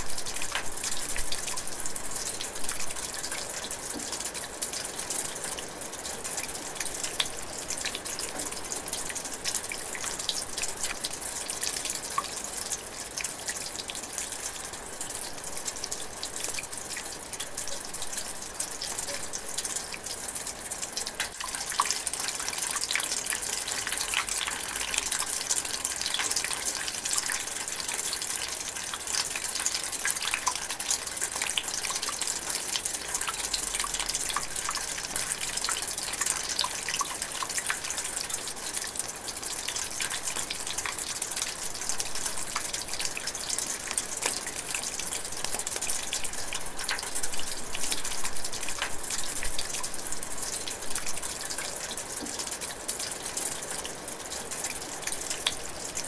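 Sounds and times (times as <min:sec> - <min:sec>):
rain drizzling: 0:00.0 - 0:56.0
raindrops pattering: 0:00.0 - 0:56.0.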